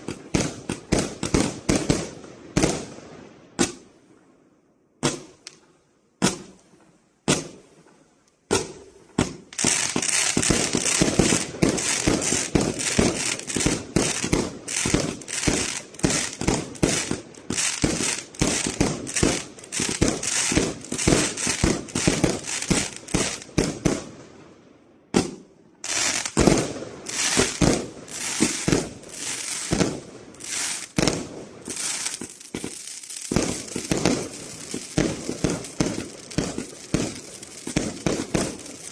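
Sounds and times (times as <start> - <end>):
fireworks launches and bursts: 0.0 - 3.8, 5.0 - 5.6, 6.2 - 6.6, 7.2 - 7.8, 8.5 - 24.4, 25.1 - 38.9.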